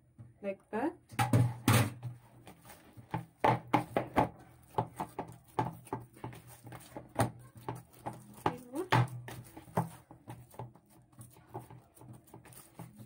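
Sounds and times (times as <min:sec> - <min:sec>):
hand kneading dough: 0:02.0 - 0:13.0.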